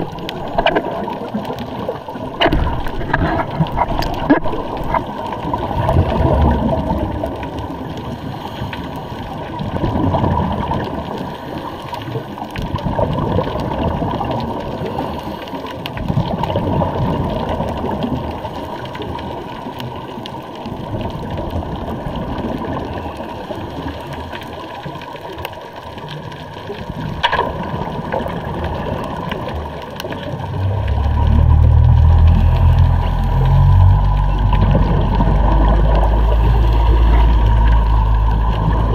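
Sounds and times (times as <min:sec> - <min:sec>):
low underwater rumble: 0:00.0 - 0:38.9
underwater water rushing and bubbling: 0:00.0 - 0:38.9.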